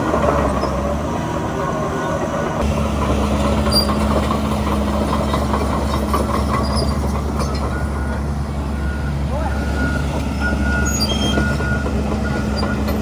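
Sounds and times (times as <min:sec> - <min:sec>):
bulldozer diesel engine drone: 0:00.0 - 0:13.0
steel tracks clanking and squealing: 0:00.0 - 0:13.0.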